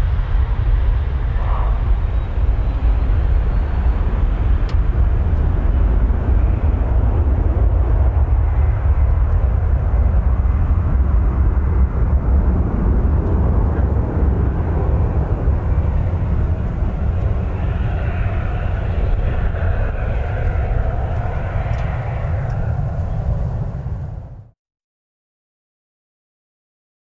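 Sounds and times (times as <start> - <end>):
jet engines at takeoff thrust: 0.0 - 24.6.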